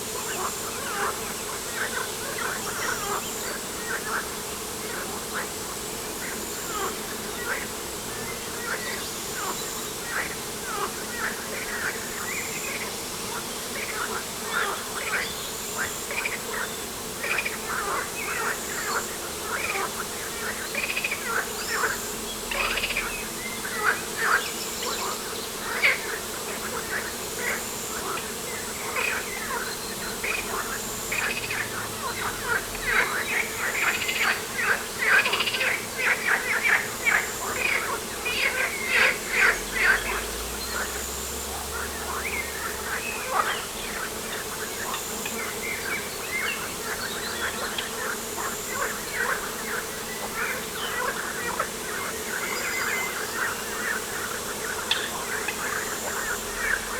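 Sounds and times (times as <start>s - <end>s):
faint outdoor hum: 0.0s - 56.9s.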